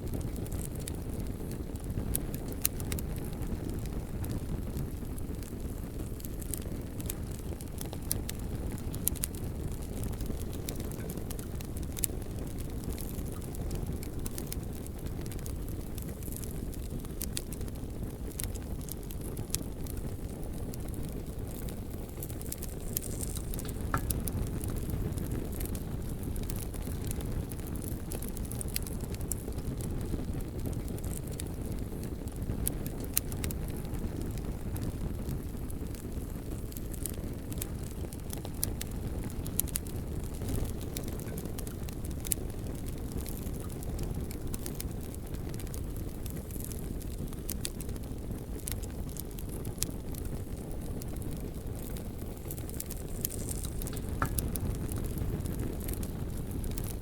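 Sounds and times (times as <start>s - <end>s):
bonfire crackling and popping: 0.0s - 57.0s
low fire rumble: 0.0s - 57.0s.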